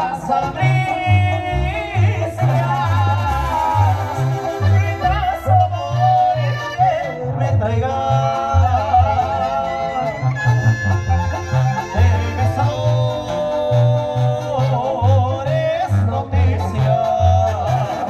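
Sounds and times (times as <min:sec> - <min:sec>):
banda music with brass melody: 0:00.0 - 0:18.0
pulsing bass: 0:00.0 - 0:18.0.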